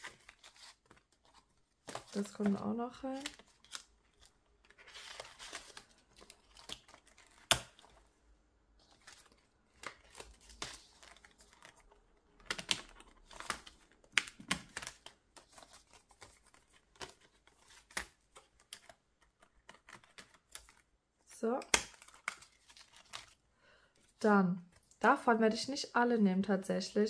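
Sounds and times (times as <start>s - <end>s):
plastic cards tapping and clicking: 0.0s - 8.0s, 8.8s - 20.9s, 21.5s - 23.4s
plastic sleeves rustling: 0.0s - 25.1s.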